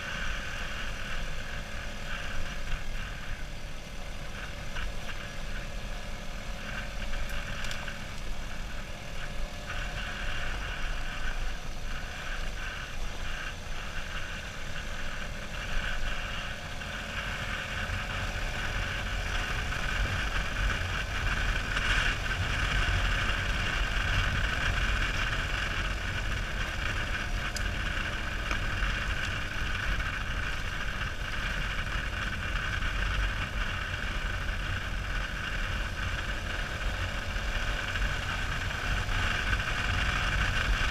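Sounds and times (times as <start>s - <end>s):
motorcycle engine running: 0.0s - 40.9s
tyres on gravel road: 0.0s - 40.9s.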